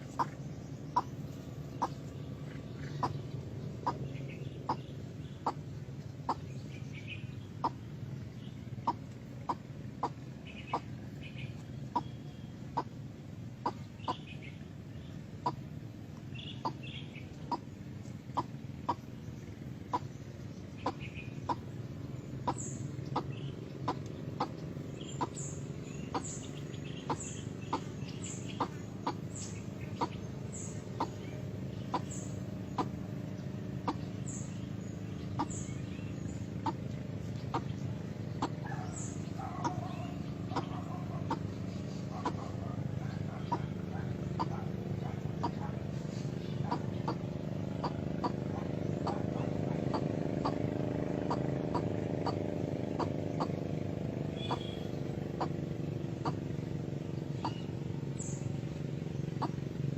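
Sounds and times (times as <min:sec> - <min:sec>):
bird clucking calls: 0:00.0 - 0:59.9.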